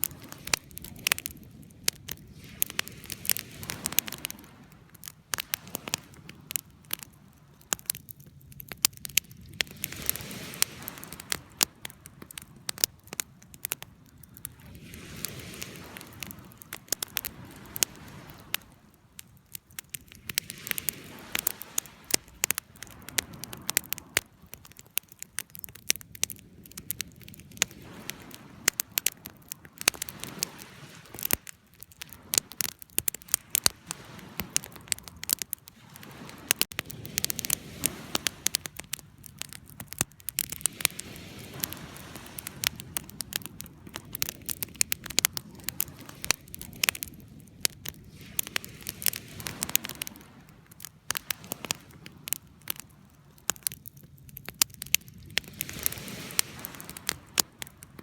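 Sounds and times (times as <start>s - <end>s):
rushing of flames: 0.0s - 58.0s
wood fire crackling and popping: 0.0s - 58.0s.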